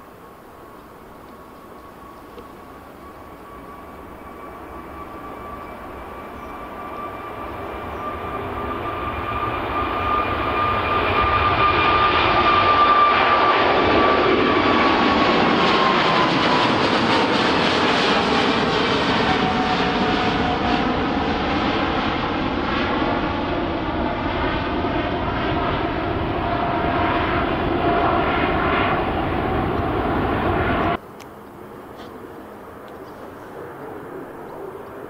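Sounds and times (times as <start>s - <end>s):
high engine whine: 0.0s - 35.0s
jet airliner passing overhead: 0.0s - 35.0s.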